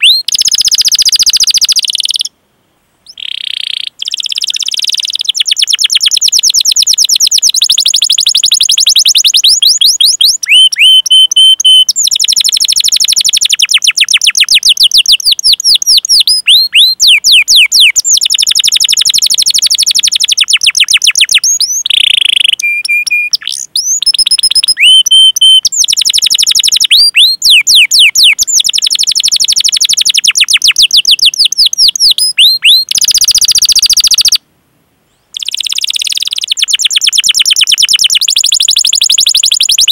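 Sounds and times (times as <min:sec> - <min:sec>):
canary singing trills: 0:00.0 - 0:02.3, 0:03.0 - 0:34.4, 0:35.1 - 0:39.9.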